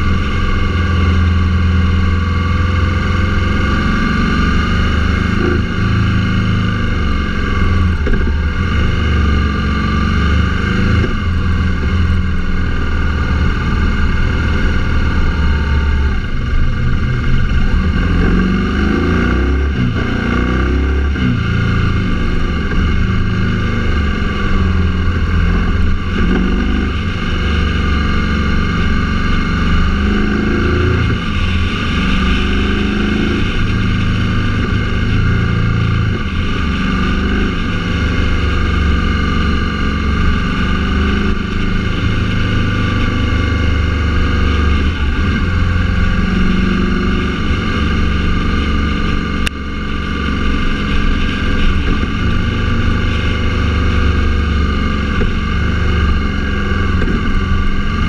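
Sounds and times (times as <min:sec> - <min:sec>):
road noise: 0:00.0 - 0:58.0
vehicle engine running: 0:00.0 - 0:58.0.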